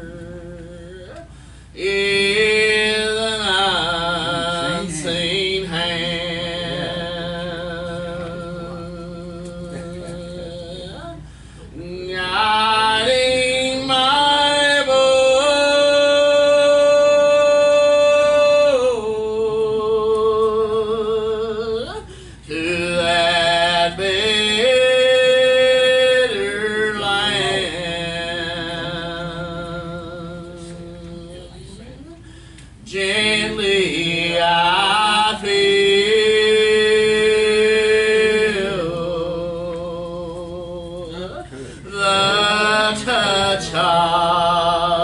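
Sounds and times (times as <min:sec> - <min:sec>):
voices singing a slow hymn: 0:00.0 - 0:45.0.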